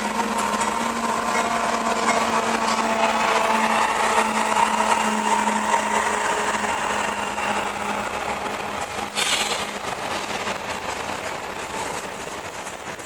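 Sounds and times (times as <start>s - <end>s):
diesel locomotive passing: 0.0s - 13.0s.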